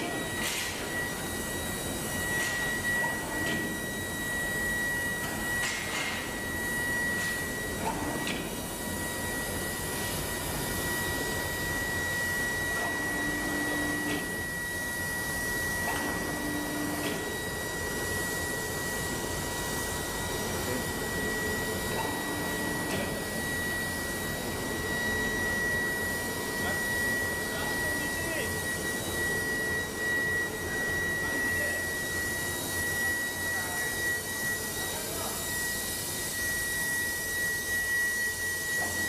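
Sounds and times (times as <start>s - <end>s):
high-pitched whine: 0.0s - 39.0s.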